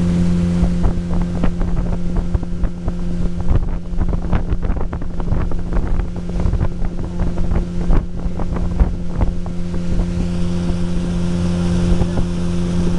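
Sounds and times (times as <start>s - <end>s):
outboard engine running: 0.0s - 12.9s
wind on microphone: 0.0s - 12.9s.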